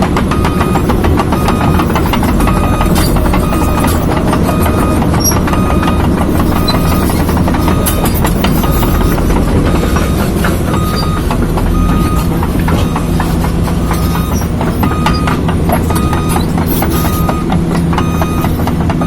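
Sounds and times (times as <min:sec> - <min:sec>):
excavator diesel engine running: 0:00.0 - 0:19.0
steel track links clanking: 0:00.0 - 0:19.0.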